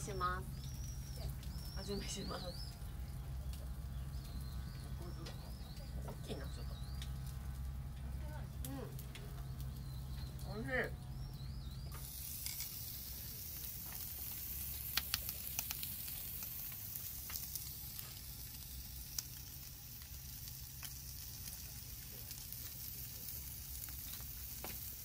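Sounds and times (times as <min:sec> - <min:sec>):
meat sizzling on a grill: 0:00.0 - 0:25.0
sharp pops and crackles: 0:00.4 - 0:10.5, 0:11.1 - 0:25.0.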